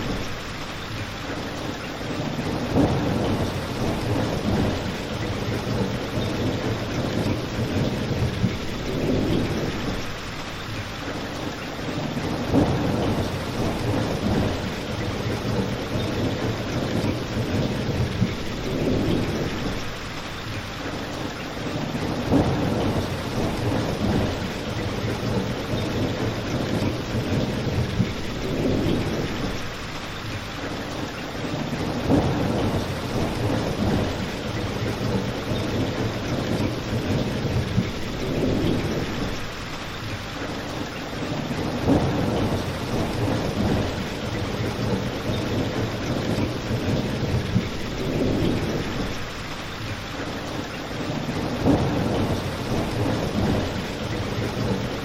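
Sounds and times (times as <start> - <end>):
steady rain: 0.0 - 55.0
low thunder rumble: 1.6 - 10.4, 11.9 - 20.2, 21.6 - 29.9, 31.5 - 39.8, 40.8 - 55.0.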